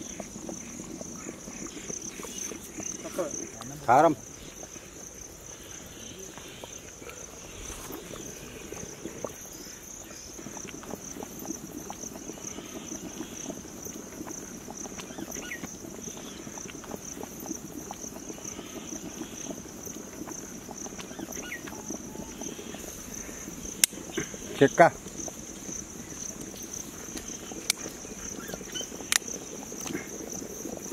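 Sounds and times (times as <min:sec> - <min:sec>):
crickets chirping: 0:00.0 - 0:30.9
pot bubbling: 0:00.0 - 0:30.9.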